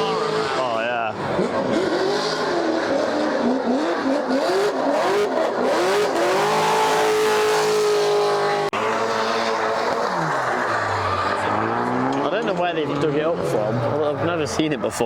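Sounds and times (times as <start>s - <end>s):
car engine revving hard: 0.0s - 14.5s.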